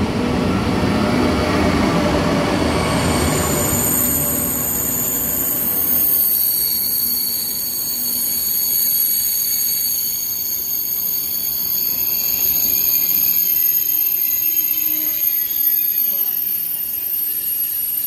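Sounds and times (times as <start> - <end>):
high-pitched whine: 0.0 - 18.0
train rumbling slowly: 0.0 - 18.0.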